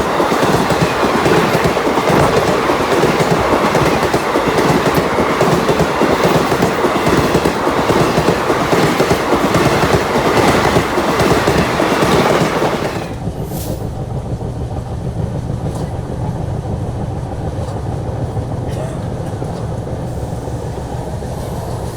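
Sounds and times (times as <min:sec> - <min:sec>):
train passing at speed: 0:00.0 - 0:21.9.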